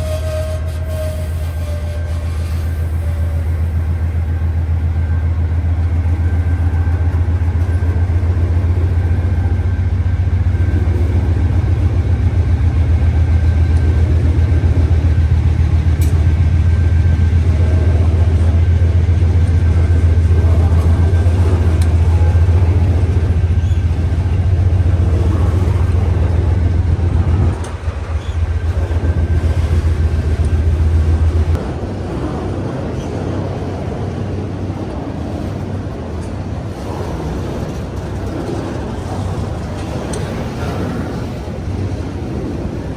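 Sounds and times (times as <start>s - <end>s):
diesel locomotive engine rumbling: 0.0s - 42.9s.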